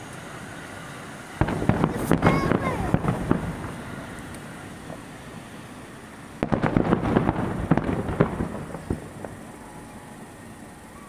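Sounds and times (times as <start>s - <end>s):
fireworks crackles: 0.0s - 11.0s.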